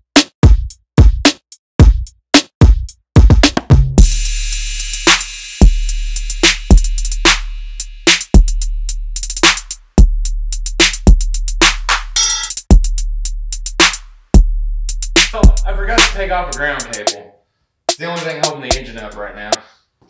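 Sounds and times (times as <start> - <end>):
hip hop beat: 0.0 - 17.3, 17.9 - 19.7.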